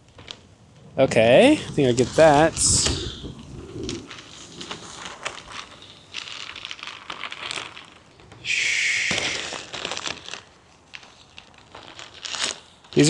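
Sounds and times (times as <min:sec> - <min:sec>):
kite sail rustling and crinkling: 0:00.0 - 0:13.0.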